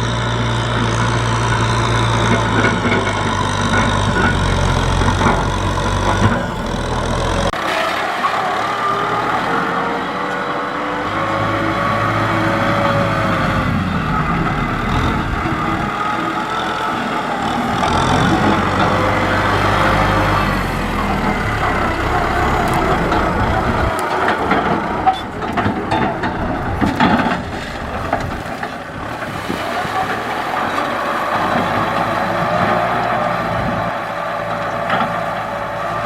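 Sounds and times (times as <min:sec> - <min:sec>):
machinery clanks and knocks: 0:00.0 - 0:07.6, 0:12.2 - 0:36.0
tractor diesel engine running: 0:00.0 - 0:36.0.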